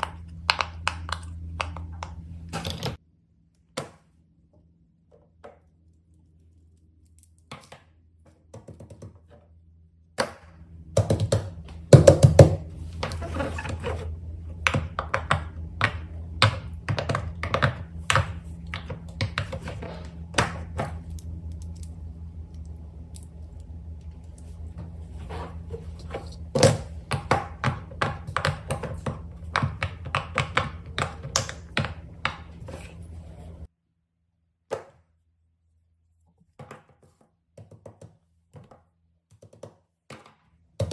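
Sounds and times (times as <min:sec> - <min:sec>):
low steady hum: 0:00.0 - 0:36.6.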